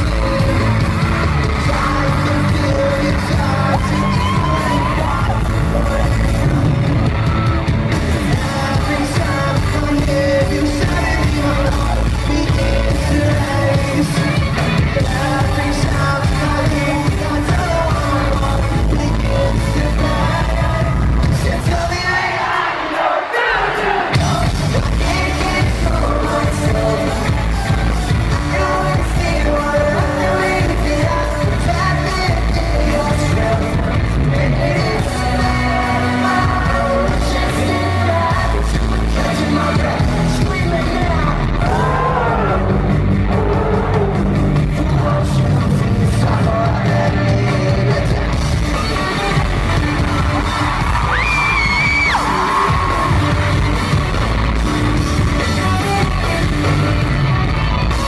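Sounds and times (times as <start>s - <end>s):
live rock band playing: 0.0s - 22.5s, 24.1s - 58.0s
person singing lead vocal: 0.0s - 58.0s.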